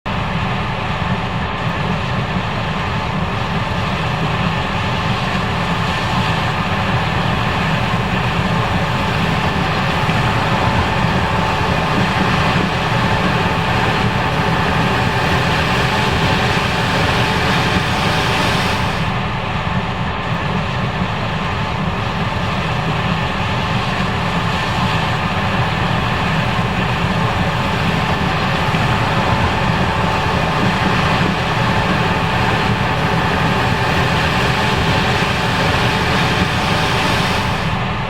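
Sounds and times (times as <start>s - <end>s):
combine harvester engine and threshing drone: 0.1s - 38.0s
faint steady whines: 0.1s - 38.0s.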